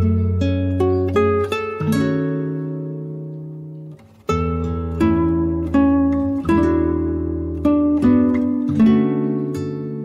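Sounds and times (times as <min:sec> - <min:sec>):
plucked string instrument melody: 0:00.0 - 0:10.0.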